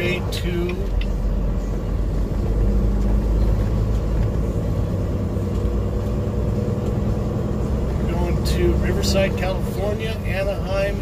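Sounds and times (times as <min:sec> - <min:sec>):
road and tyre noise: 0:00.0 - 0:11.0
truck engine drone: 0:00.0 - 0:11.0.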